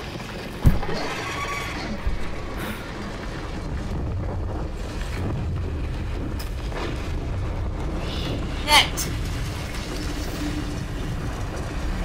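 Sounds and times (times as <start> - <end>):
deep steady rumble: 0.2 - 12.0
wind-like rush: 1.8 - 12.0.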